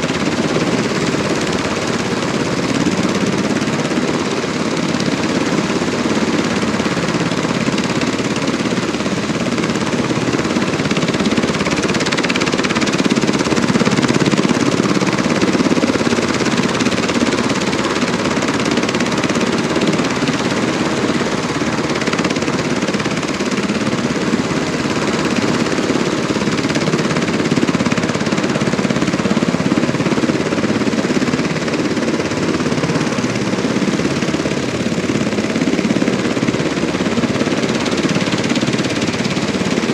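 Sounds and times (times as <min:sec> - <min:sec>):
helicopter engine: 0:00.0 - 0:39.9
helicopter rotor chop: 0:00.0 - 0:39.9.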